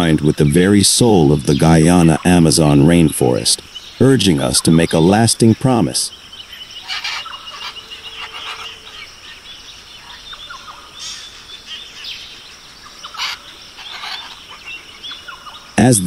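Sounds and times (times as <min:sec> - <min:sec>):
background hiss: 0:00.0 - 0:16.0
birds chirping: 0:00.0 - 0:16.0.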